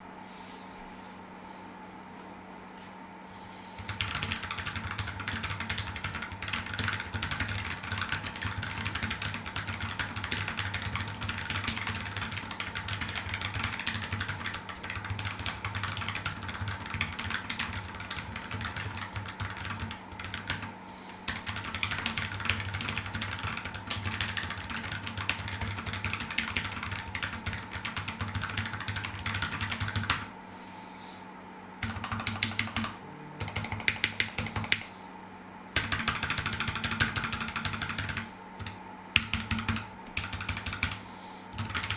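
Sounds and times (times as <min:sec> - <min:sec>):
fast typing on mechanical keyboard: 0:03.8 - 0:30.3, 0:31.8 - 0:34.9, 0:35.8 - 0:41.0, 0:41.6 - 0:41.9.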